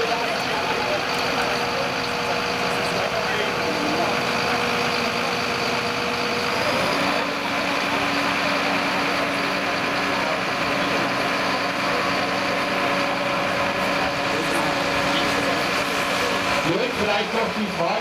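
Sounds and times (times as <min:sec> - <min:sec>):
fire truck diesel engine running: 0:00.0 - 0:18.0.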